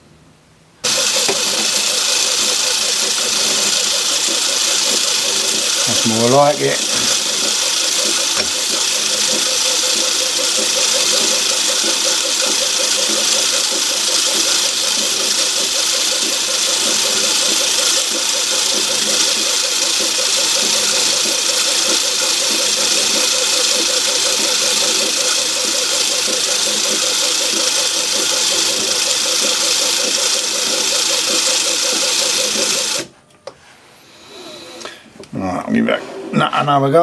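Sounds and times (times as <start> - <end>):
lathe running with pulsing hum: 0.8 - 33.2.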